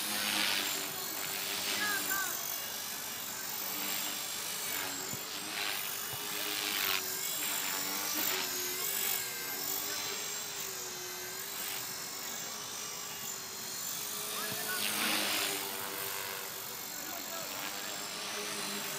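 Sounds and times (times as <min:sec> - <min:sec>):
rc helicopter motor whine: 0:00.0 - 0:18.9.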